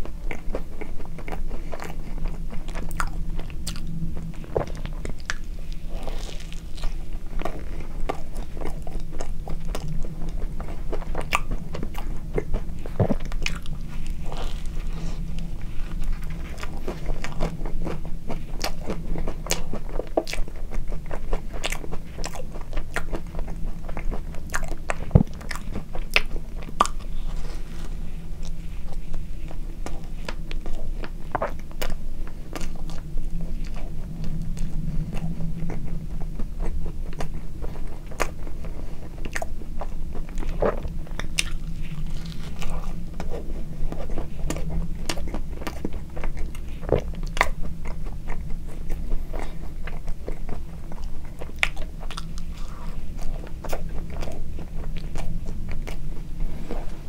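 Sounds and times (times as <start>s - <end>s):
close chewing with mouth clicks: 0.0s - 57.0s.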